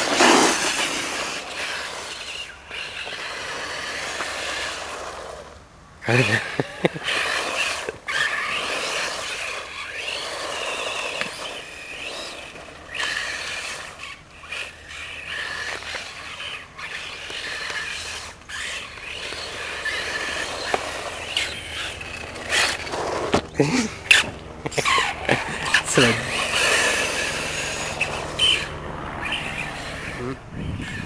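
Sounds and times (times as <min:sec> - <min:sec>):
rc car motor whining: 0:00.0 - 0:31.0.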